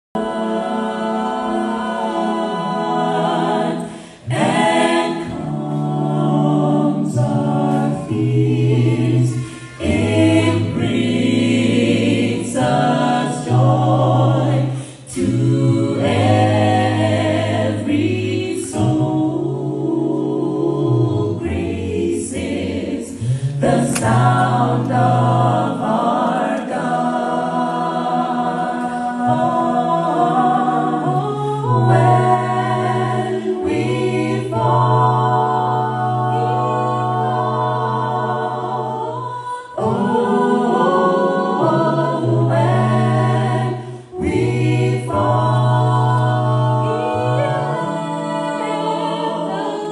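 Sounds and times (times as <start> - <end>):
a cappella group singing in harmony: 0.0 - 49.9.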